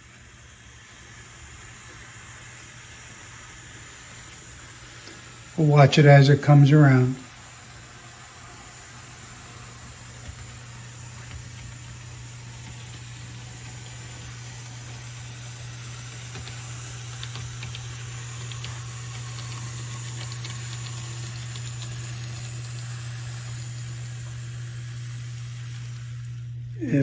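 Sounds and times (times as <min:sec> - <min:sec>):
even hiss: 0:00.0 - 0:27.0
low electrical hum: 0:00.0 - 0:27.0.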